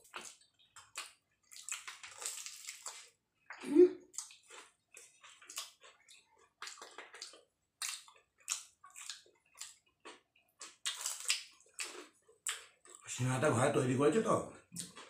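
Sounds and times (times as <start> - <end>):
crunchy chewing and biting: 0.0 - 3.2, 4.1 - 13.0.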